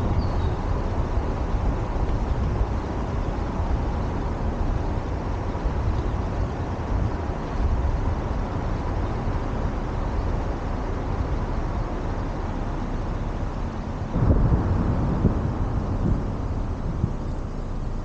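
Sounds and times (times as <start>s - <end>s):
vehicle road noise rumble: 0.0s - 18.0s
wind buffeting microphone: 0.0s - 18.0s.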